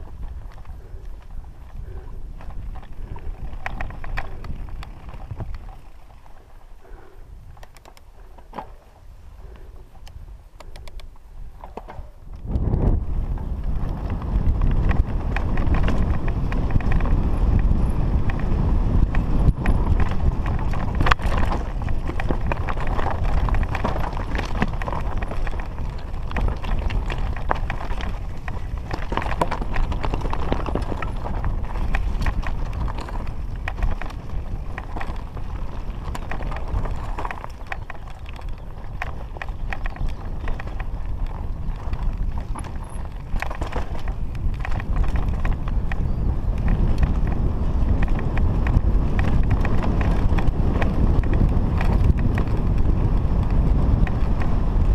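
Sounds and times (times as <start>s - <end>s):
tyres rumbling over loose stones: 0.0s - 10.0s, 11.5s - 54.9s
bike clattering and rattling: 0.0s - 54.9s
wind on microphone: 0.0s - 54.9s.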